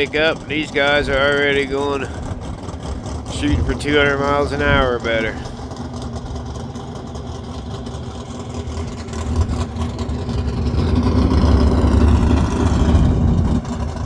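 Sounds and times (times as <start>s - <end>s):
race car engine at full throttle: 0.0s - 14.0s.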